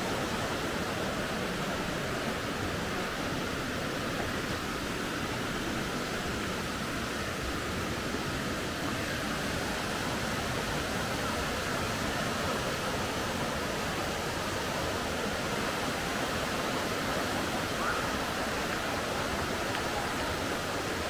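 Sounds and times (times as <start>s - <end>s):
rush of falling water: 0.0s - 21.0s.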